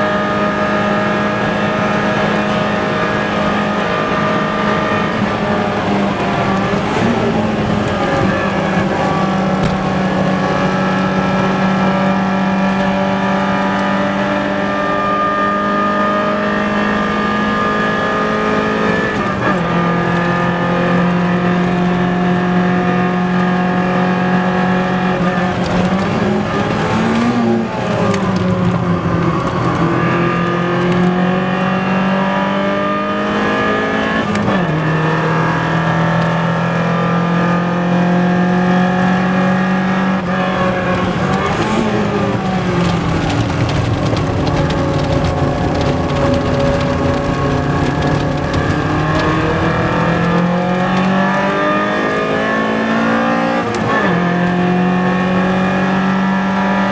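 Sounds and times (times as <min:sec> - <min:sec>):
car engine revving at full throttle: 0:00.0 - 0:56.9.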